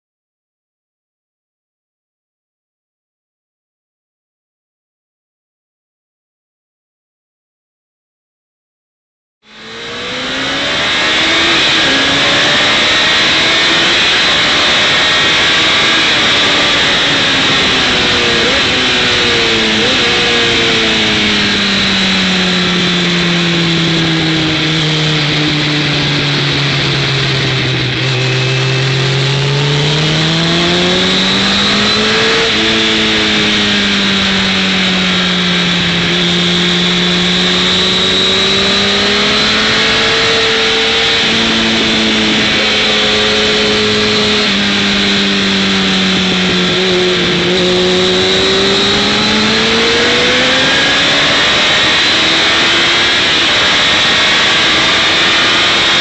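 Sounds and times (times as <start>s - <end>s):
motorcycle engine revving: 9.4s - 56.0s
wind noise: 10.4s - 56.0s.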